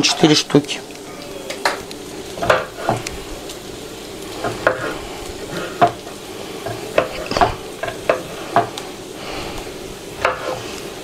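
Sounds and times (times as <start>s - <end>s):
onions sizzling in a pan: 0.0s - 11.0s.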